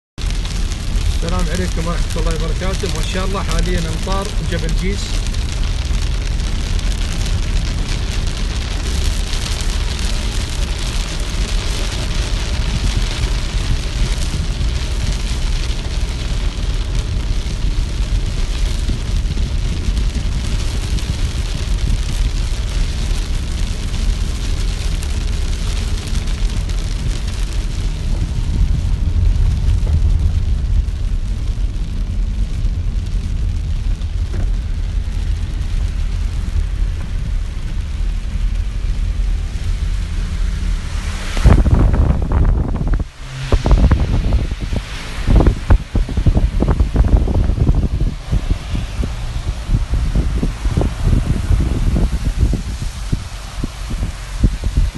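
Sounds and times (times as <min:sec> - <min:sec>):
car driving on wet road: 0:00.2 - 0:54.9
rain hitting car windshield: 0:00.2 - 0:54.9.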